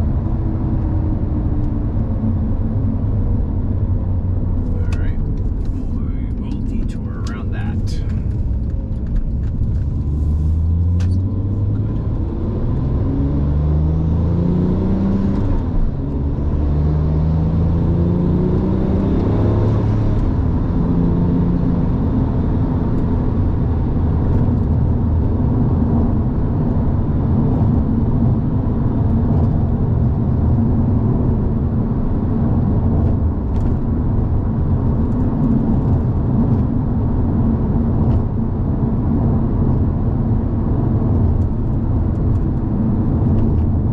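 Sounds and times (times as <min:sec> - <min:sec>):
car engine accelerating: 0:00.0 - 0:43.9
road noise: 0:00.0 - 0:43.9.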